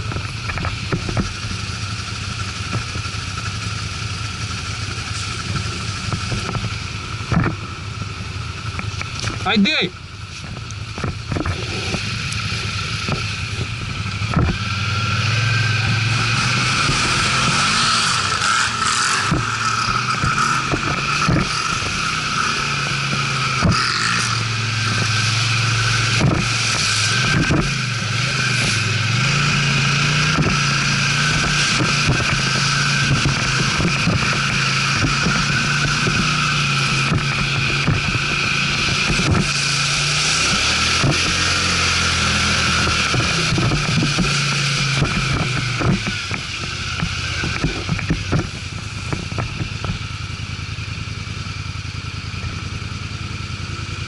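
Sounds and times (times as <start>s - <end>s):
knocks and rattles over rough ground: 0.0s - 50.8s
atv engine revving: 0.0s - 54.0s.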